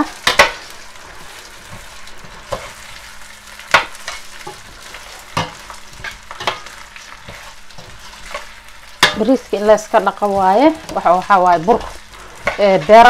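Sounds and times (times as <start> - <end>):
faint sizzle in a pot: 0.0 - 13.0.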